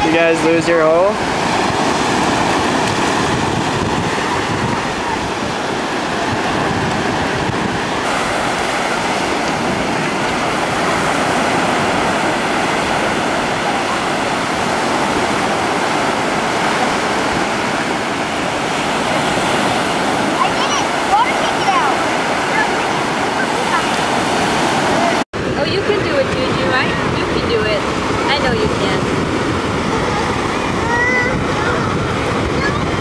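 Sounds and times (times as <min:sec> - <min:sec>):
ocean surf breaking: 0:00.0 - 0:33.0.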